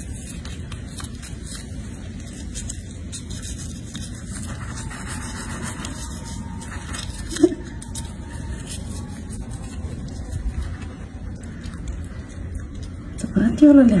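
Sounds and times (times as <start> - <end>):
toothbrush scrubbing teeth: 0.0 - 14.0.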